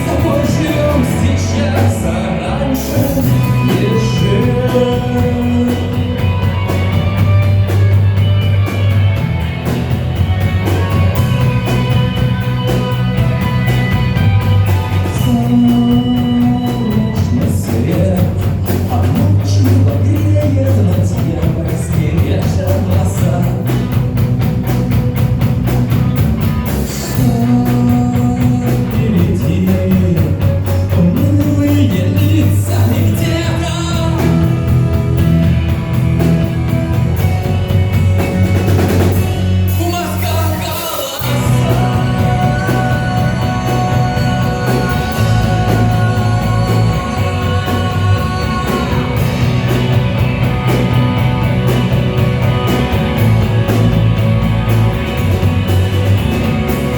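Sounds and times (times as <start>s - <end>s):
rock song with singing: 0.0s - 56.9s.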